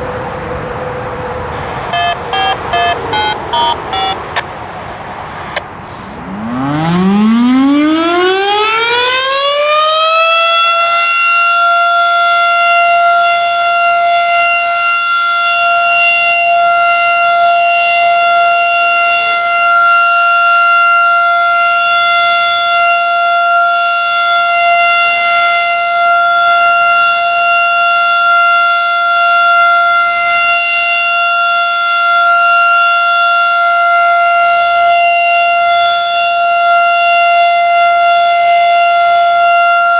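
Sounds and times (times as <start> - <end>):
warning siren winding up: 0.0 - 4.6, 5.4 - 39.9.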